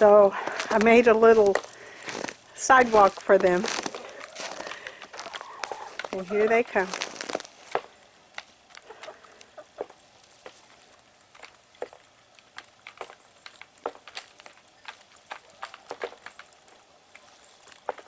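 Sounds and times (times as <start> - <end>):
chicken feet crunching on icy snow: 0.0 - 18.0.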